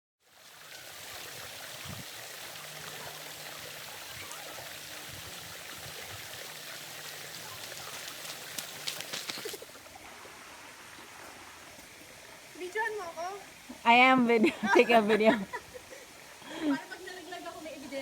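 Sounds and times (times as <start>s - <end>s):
creek water rushing: 0.2s - 18.0s.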